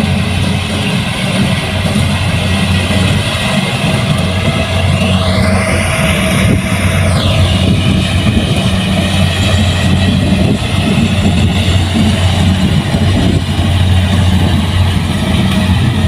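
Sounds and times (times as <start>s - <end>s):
combine harvester engine hum: 0.0s - 16.0s
high whine dropping in pitch: 0.0s - 16.0s.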